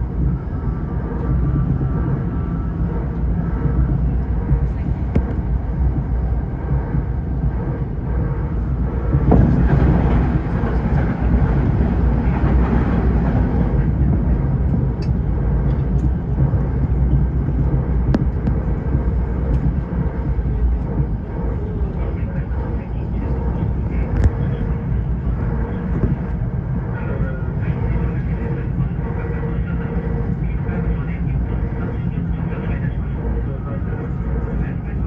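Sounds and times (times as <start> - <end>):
subway train rumbling: 0.0 - 35.0.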